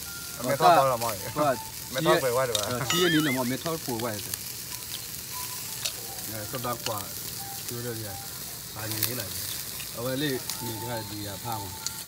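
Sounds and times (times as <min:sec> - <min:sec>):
food sizzling on grill: 0:00.0 - 0:12.0.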